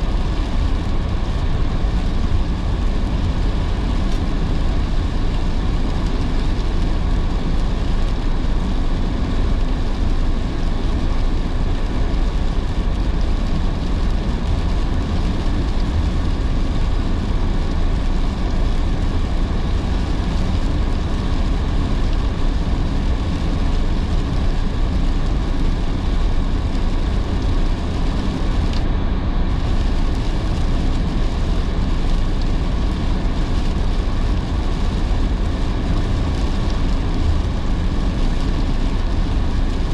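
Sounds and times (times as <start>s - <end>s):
car tyre noise on wet road: 0.0s - 39.9s
heavy rain: 0.0s - 39.9s.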